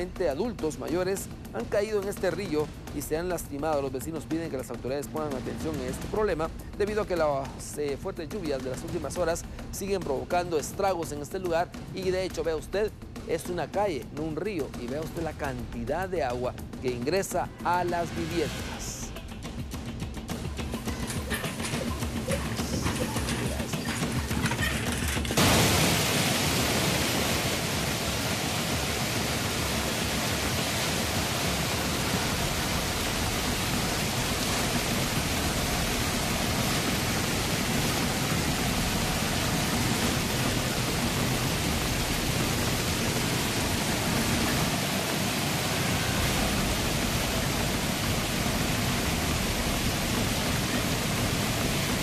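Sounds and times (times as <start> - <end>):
floodwater rushing: 0.0 - 19.4, 20.2 - 52.0.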